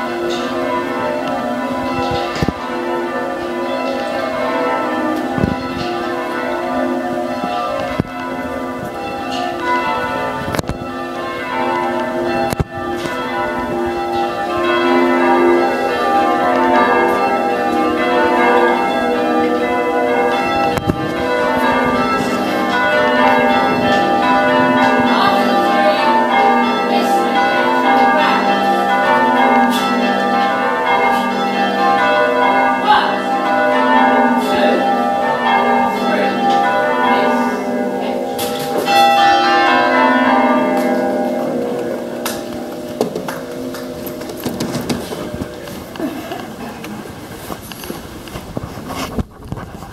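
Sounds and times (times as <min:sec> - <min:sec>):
church bells ringing in changes: 0:00.0 - 0:46.5.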